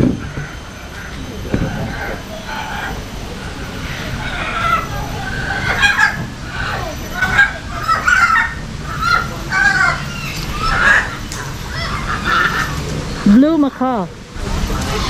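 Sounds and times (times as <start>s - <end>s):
parrots calling and squawking: 0.0s - 15.0s.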